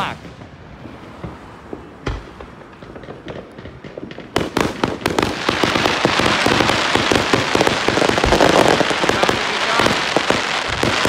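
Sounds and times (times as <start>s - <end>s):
fireworks crackling and popping: 0.0s - 11.0s.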